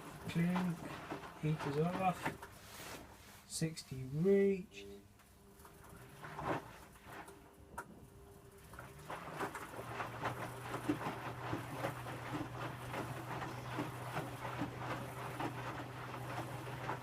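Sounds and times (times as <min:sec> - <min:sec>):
water sloshing: 0:00.0 - 0:03.2, 0:05.5 - 0:07.8, 0:08.4 - 0:17.0
washing machine motor hum: 0:00.0 - 0:17.0.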